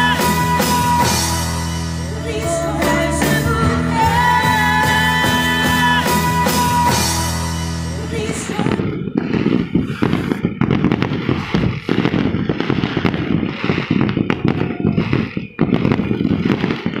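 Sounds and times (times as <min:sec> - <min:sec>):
firecrackers and fireworks bangs: 0:00.0 - 0:17.0.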